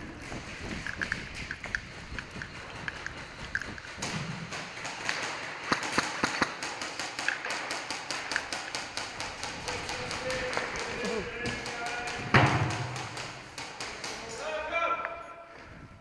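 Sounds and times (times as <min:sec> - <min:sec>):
airsoft guns firing: 0:00.2 - 0:14.5
pellets striking hard surfaces: 0:00.2 - 0:14.5.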